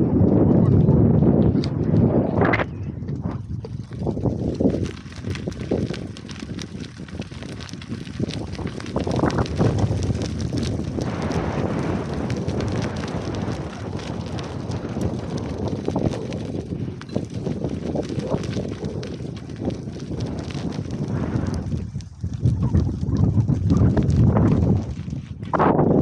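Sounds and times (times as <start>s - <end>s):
bicycle tyres on gravel: 0.0s - 26.0s
wind buffeting microphone: 0.0s - 26.0s.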